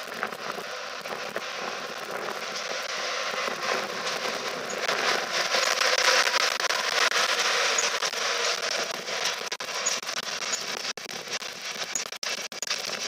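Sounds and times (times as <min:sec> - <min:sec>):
crackling clicks: 0:00.0 - 0:13.0
train wheels rushing on rails: 0:00.0 - 0:13.0.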